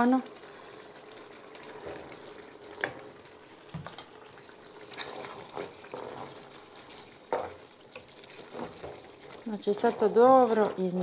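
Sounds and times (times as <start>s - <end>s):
wooden spoon stirring wet food: 0.0s - 11.0s.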